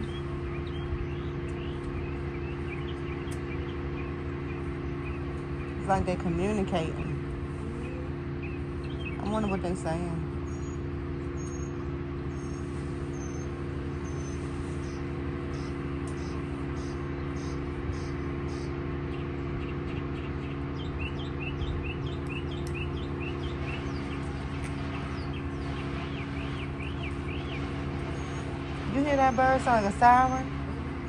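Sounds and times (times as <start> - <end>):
siren-like bird calls: 0.0 - 30.7
birds chirping: 0.0 - 31.0
low engine-like hum: 0.0 - 31.0.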